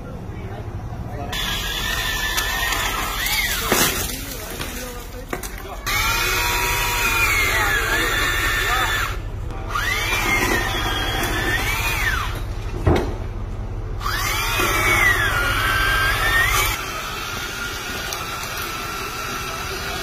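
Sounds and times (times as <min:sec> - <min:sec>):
chainsaw cutting a tree: 0:01.4 - 0:12.4, 0:14.0 - 0:20.0.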